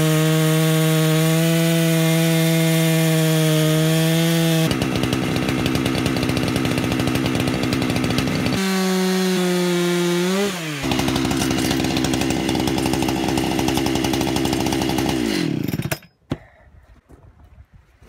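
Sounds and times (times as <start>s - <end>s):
chainsaw running and idling: 0.0s - 16.1s.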